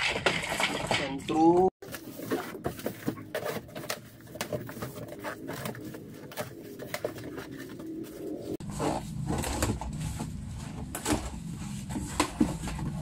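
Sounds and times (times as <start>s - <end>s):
cardboard boxes being handled: 1.8s - 13.0s.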